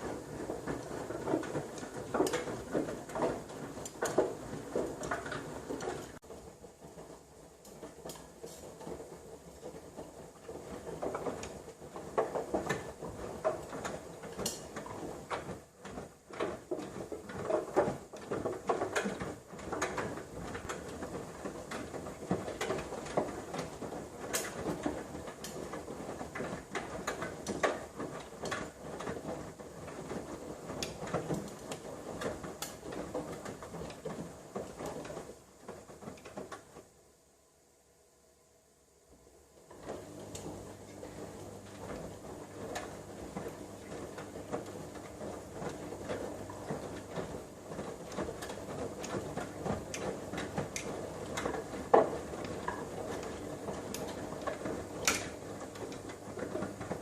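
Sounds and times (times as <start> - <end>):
washing machine tumbling laundry: 0.0 - 57.0.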